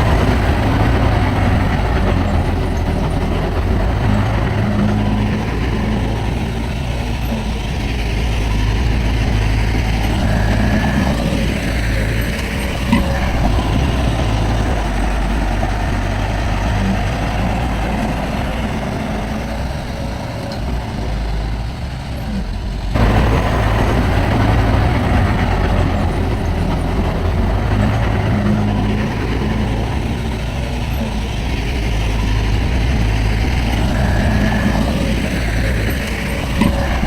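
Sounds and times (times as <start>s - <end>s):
heavy diesel machinery rumbling: 0.0s - 37.0s.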